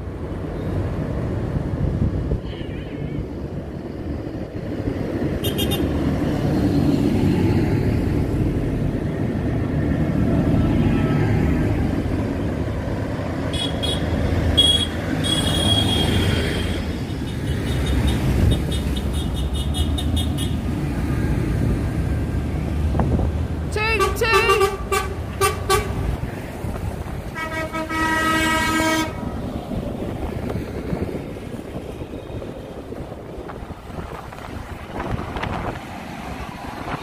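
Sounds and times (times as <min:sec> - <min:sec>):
tractor engines rumbling: 0:00.0 - 0:37.0.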